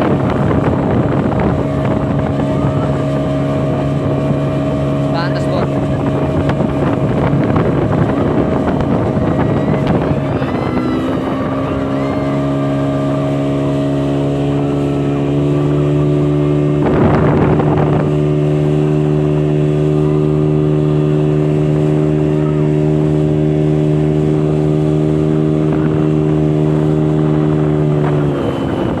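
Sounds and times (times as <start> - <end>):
motorboat engine running: 0.0 - 29.0.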